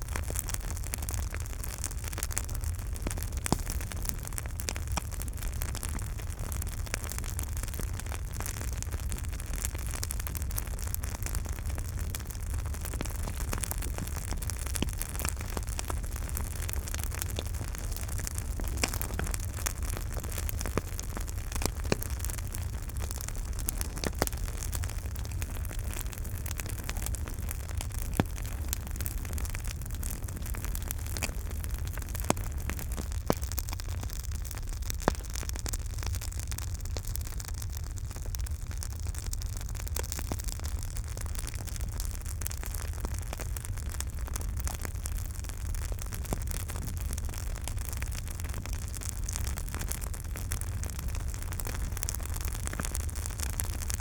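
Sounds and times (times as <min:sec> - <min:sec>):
burning wood crackling and popping: 0:00.0 - 0:54.0
flames rumbling and hissing: 0:00.0 - 0:54.0.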